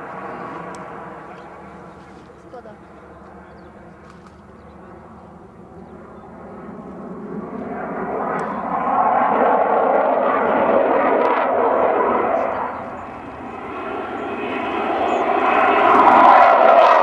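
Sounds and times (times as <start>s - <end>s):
jet fighter flying past: 0.0s - 17.0s.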